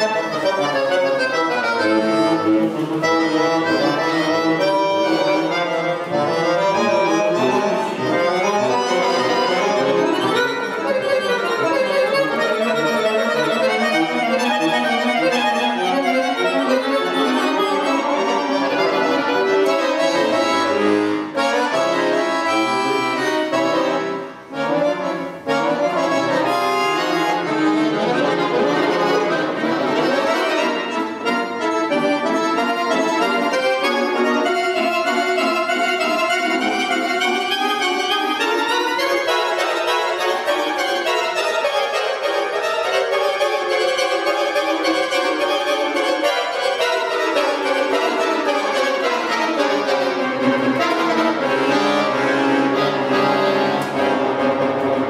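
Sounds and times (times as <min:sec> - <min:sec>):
button accordion playing: 0:00.0 - 0:55.0.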